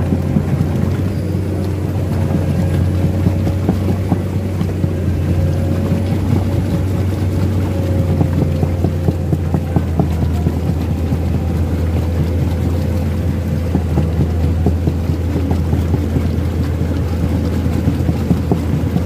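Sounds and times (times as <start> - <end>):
excavator diesel engine running: 0.0 - 19.0
steel tracks in mud: 0.0 - 19.0.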